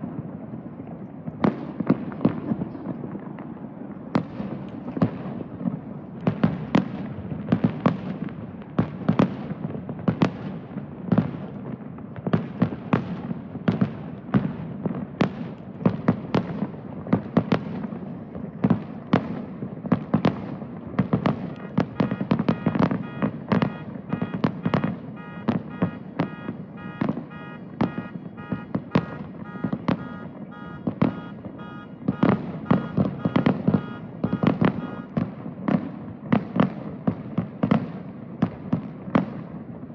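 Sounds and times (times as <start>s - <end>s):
fireworks bangs: 0.0s - 39.9s
fireworks rumble: 0.0s - 39.9s.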